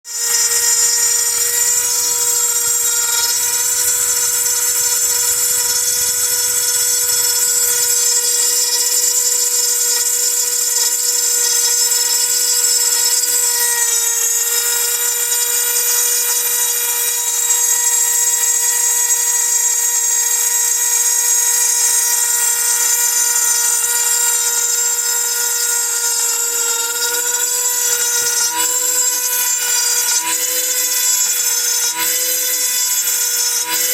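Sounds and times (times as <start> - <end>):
mill spindle whine: 0.1 - 33.9.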